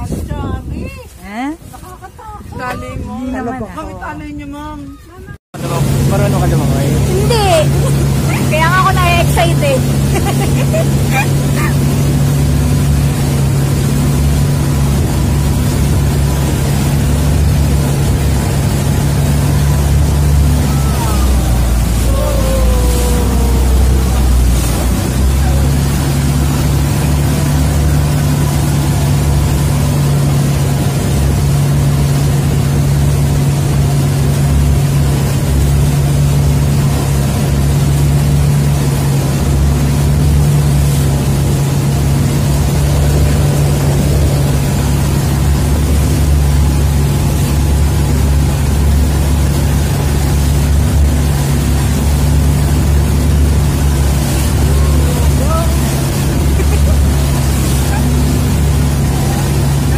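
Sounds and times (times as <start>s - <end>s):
wind: 0.0s - 59.9s
boat engine droning: 2.6s - 59.9s
water rushing: 5.6s - 59.9s.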